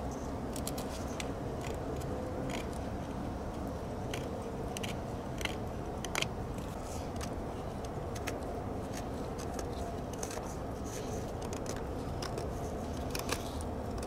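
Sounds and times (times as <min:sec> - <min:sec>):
knife shaving wooden stick: 0:00.0 - 0:14.0
low background hum: 0:00.0 - 0:14.0.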